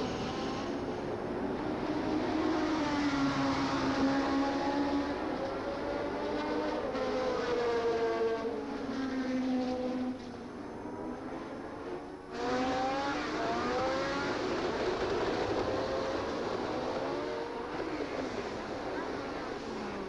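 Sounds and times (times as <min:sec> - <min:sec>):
racing car engines passing: 0:00.0 - 0:20.0.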